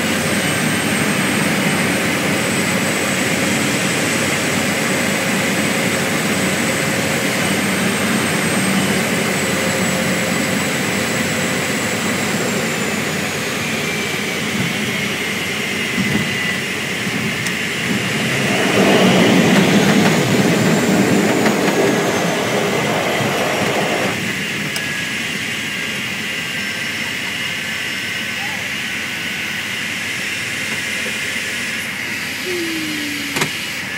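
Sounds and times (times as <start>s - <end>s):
propeller engine running: 0.0s - 33.9s.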